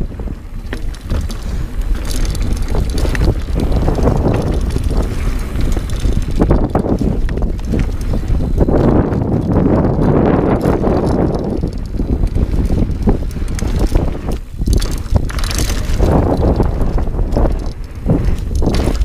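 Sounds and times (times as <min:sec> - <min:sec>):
bike rattling over bumps: 0:00.0 - 0:19.0
bike tyres rolling over dirt: 0:00.0 - 0:19.0
wind noise on microphone: 0:00.0 - 0:19.0.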